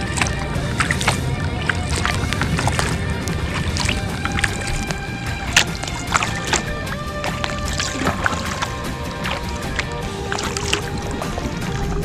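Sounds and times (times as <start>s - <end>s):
paddle splashes and drips: 0.0s - 12.0s.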